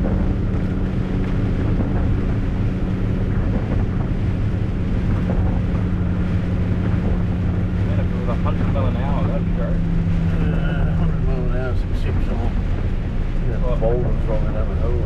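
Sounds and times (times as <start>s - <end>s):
truck diesel engine humming: 0.0s - 15.0s
tyres on wet road: 0.0s - 15.0s
wind noise: 0.0s - 15.0s.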